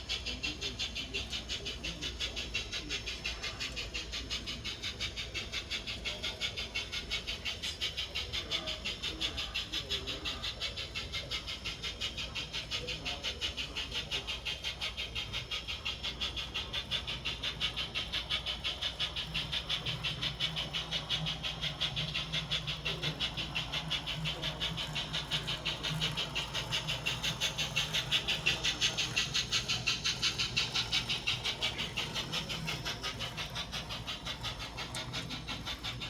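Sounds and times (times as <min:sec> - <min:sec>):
model steam locomotive chuffing: 0:00.0 - 0:36.0.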